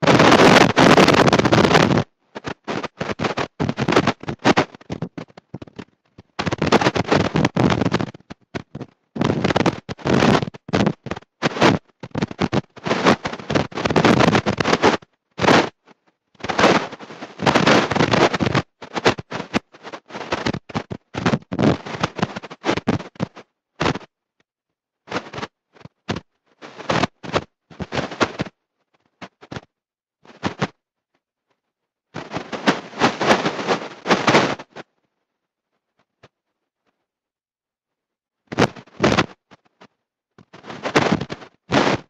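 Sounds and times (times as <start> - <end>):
harsh distorted crackling: 0.0 - 24.2, 25.1 - 30.8, 32.1 - 35.0, 38.5 - 42.0.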